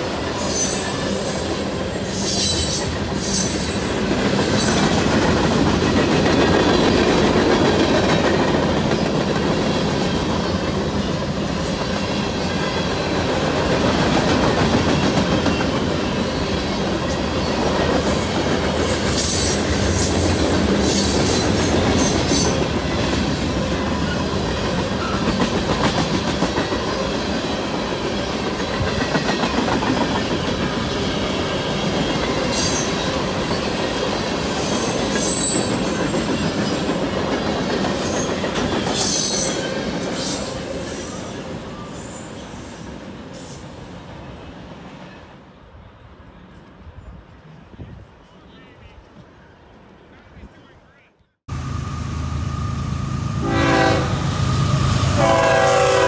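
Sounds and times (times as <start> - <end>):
train wheels rumbling on rails: 0.0 - 45.1.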